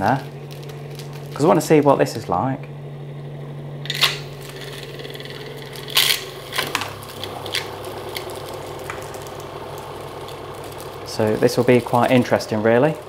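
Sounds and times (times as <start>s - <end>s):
candy floss machine motor humming: 0.0s - 13.0s.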